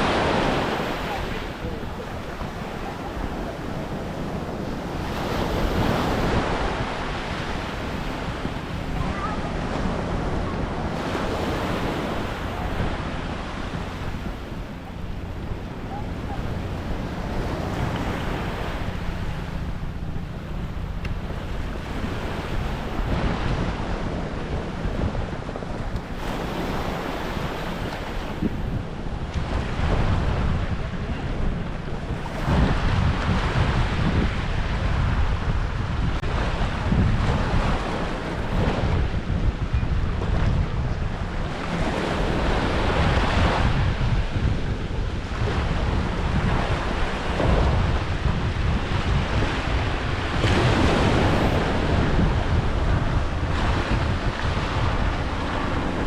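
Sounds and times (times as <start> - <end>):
waves washing onto beach: 0.0 - 56.0
wind rumbling on microphone: 0.0 - 56.0.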